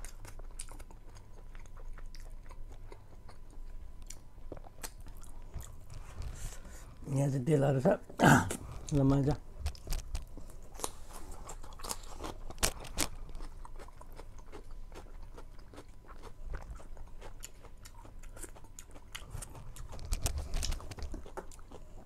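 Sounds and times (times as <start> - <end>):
person chewing and crunching food: 0.0 - 7.0, 8.3 - 22.0.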